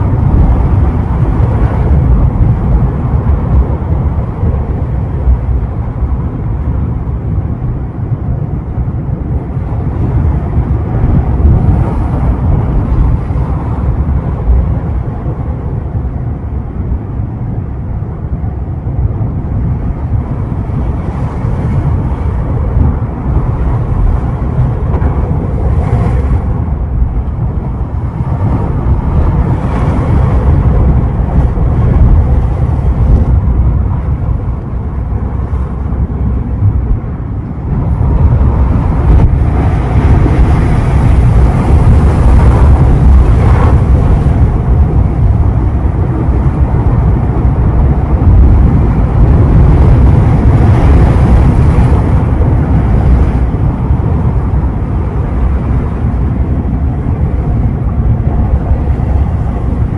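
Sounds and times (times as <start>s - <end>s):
ocean surf breaking: 0.0s - 59.9s
wind rumble on microphone: 0.0s - 59.9s.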